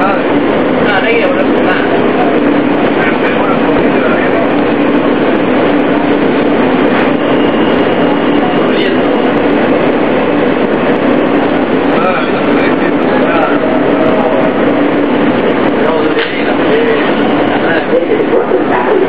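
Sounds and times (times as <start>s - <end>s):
constant low hum: 0.0s - 19.0s
subway car rumble: 0.0s - 19.0s.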